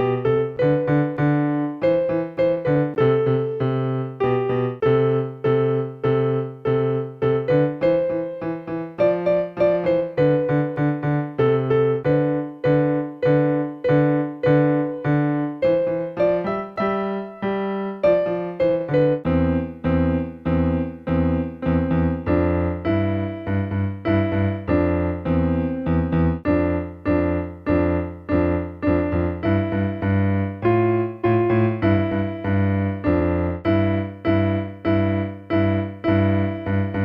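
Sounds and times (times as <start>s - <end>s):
electronic keyboard repeated notes: 0.0s - 37.0s.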